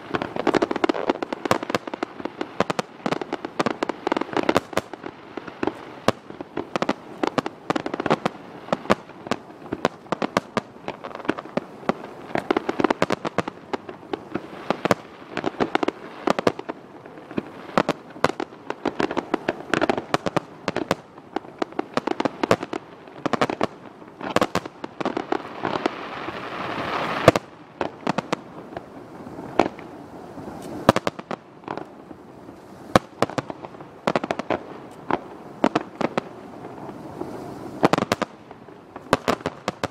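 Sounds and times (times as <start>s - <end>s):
firework bursts and crackling: 0.0s - 39.9s
firework hiss: 0.0s - 39.9s.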